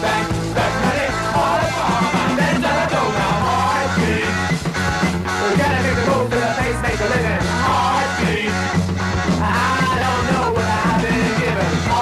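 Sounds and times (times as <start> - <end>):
band song from worn cassette: 0.0 - 12.0.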